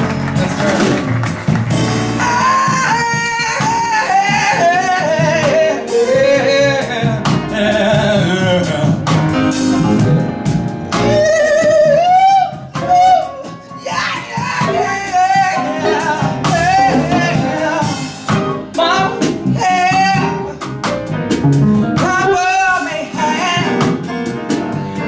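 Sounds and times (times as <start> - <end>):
piano bass and drums combo: 0.0 - 25.0
man singing jazz ballad: 1.8 - 25.0.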